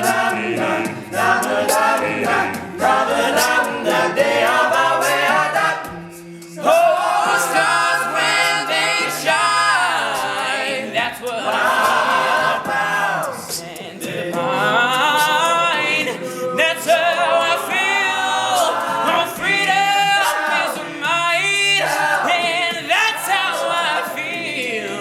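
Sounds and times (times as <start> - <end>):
male a cappella group singing: 0.0 - 25.0.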